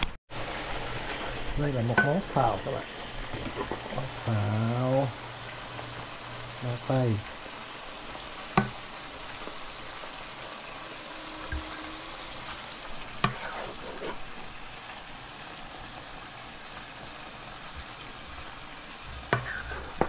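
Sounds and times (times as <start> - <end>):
food sizzling in pan: 0.0 - 20.0.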